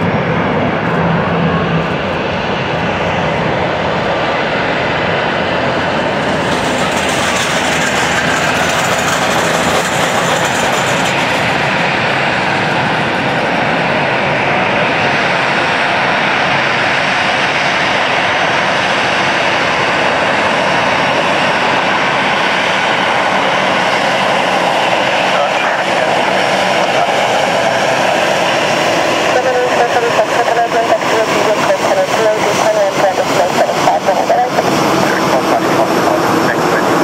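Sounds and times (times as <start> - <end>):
jet engines rumbling at takeoff: 0.0 - 37.0.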